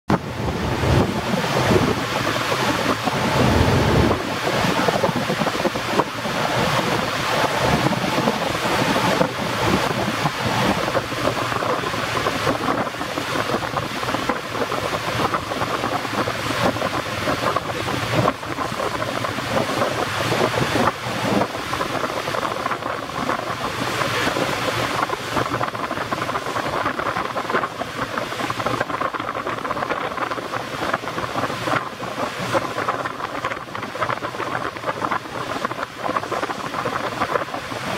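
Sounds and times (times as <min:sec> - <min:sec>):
low wind buffeting: 0:00.1 - 0:37.9
open water rushing: 0:00.1 - 0:37.9
wind on microphone: 0:00.1 - 0:37.9.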